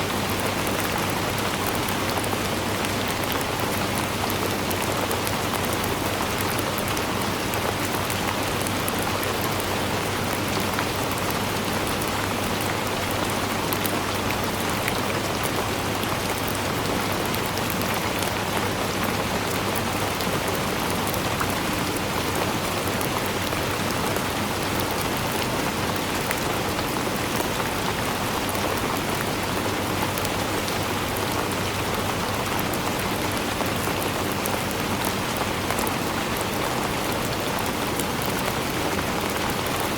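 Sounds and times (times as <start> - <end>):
rain pattering on surface: 0.0 - 39.9.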